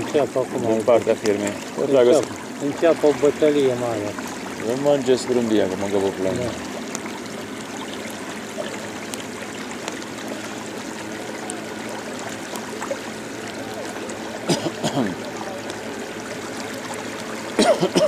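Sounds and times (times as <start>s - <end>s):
rain hissing on water: 0.0s - 18.0s
water washing along boat: 0.0s - 18.0s.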